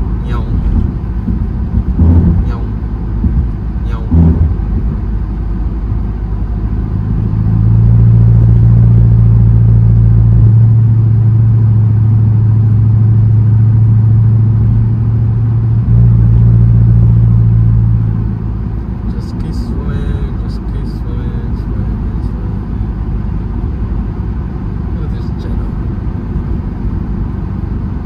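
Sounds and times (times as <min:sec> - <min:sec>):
car exhaust drone: 0:00.0 - 0:28.0
road and tyre noise: 0:00.0 - 0:28.0.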